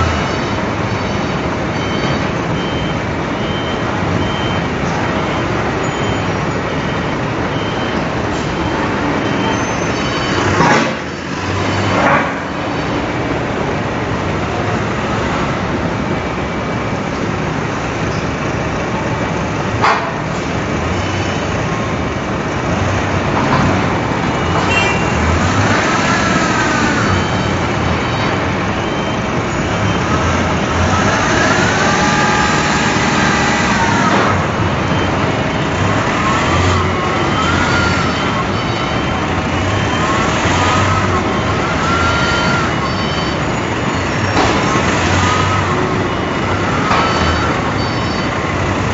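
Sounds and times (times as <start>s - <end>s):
industrial machinery noise: 0.0s - 48.9s.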